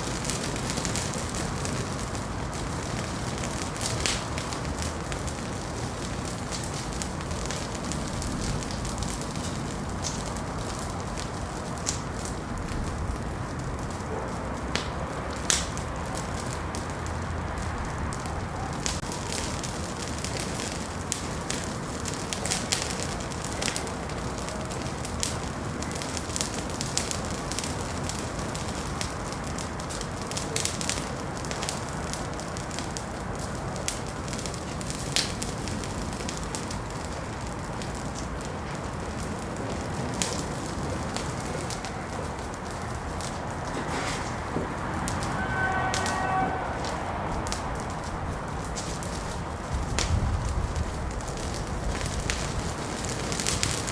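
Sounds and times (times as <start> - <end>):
fire crackles and pops: 0.0 - 53.9
fire flame rush: 0.0 - 53.9.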